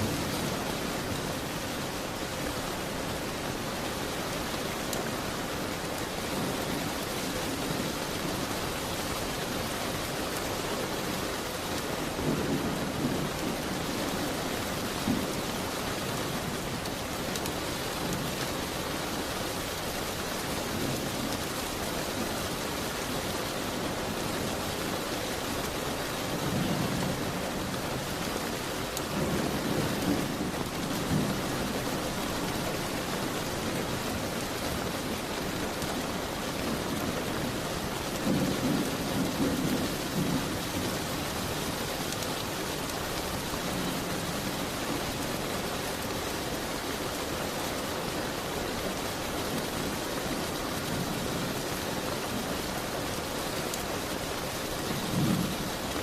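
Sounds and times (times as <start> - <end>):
rain against a window: 0.0 - 56.0.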